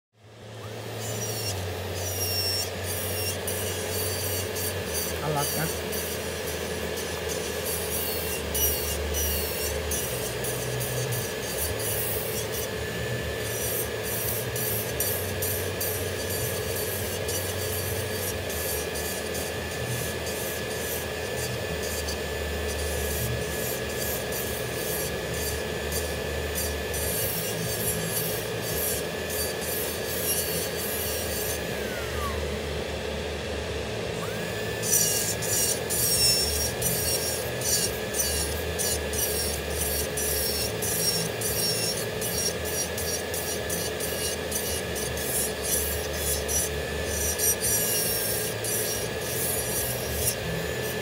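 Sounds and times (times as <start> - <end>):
electric nail drill running: 0.2 - 51.0
drill bit rasping on nail: 1.0 - 32.4, 34.2 - 51.0.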